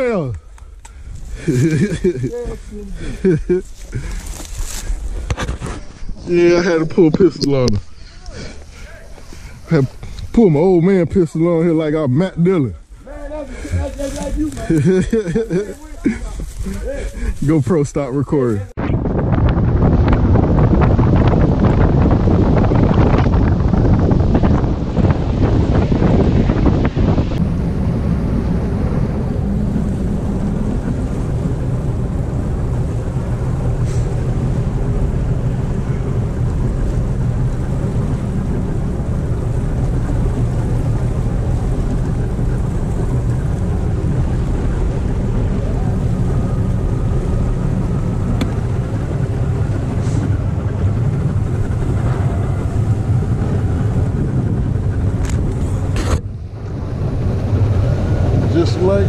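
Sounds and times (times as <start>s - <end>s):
engine running: 0.0s - 18.8s, 19.4s - 59.0s
wind buffeting microphone: 0.0s - 59.0s.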